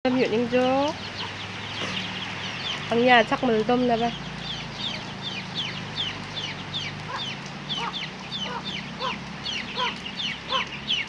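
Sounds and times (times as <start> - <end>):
chickens clucking: 0.1 - 11.0
chicks peeping: 0.1 - 11.0.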